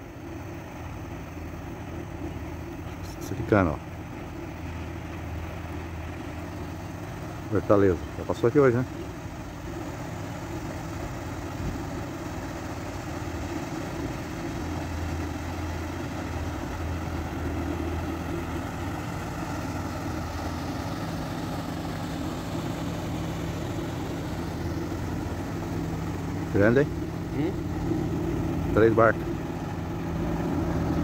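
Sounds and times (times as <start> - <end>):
push boat engine drone: 0.0 - 31.0.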